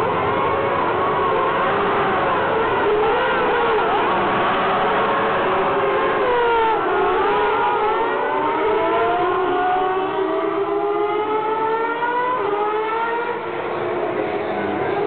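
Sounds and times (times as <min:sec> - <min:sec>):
race car engines accelerating: 0:00.0 - 0:15.0.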